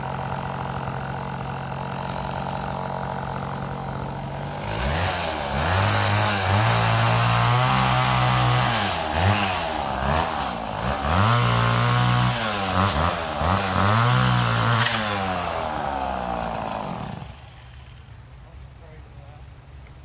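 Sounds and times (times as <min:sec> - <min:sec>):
two-stroke chainsaw revving: 0:00.0 - 0:18.3.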